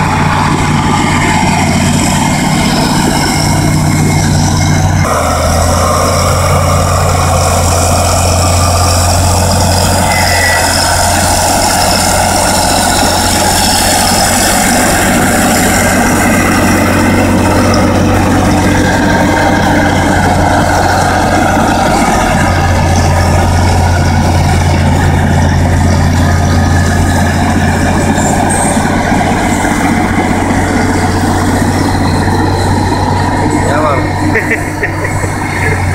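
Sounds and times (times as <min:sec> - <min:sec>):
bulldozer diesel engine droning: 0:00.0 - 0:35.9.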